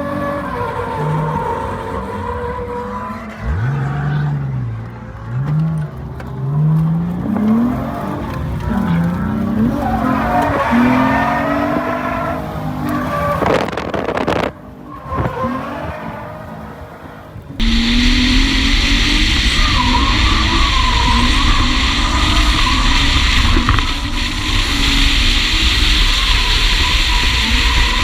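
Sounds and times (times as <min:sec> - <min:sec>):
car engine revving: 0:00.0 - 0:28.0
tyres squealing: 0:00.0 - 0:28.0.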